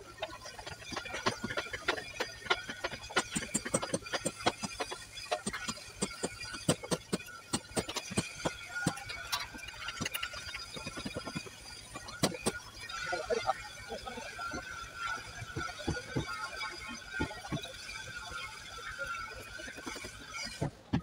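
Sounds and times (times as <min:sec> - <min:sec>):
rapid clicking and tapping: 0:00.0 - 0:21.0.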